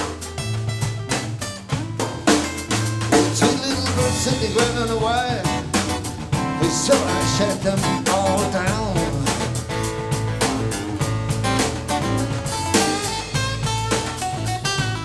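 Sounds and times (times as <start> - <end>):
acoustic bass guitar: 0.0 - 15.0
acoustic guitar: 0.0 - 15.0
drum kit beat: 0.0 - 15.0
pitch-bending lead melody: 0.2 - 15.0.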